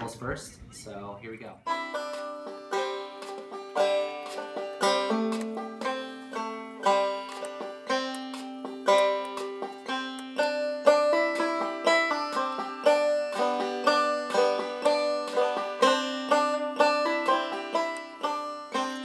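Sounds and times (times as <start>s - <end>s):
banjo picking: 1.6s - 19.0s.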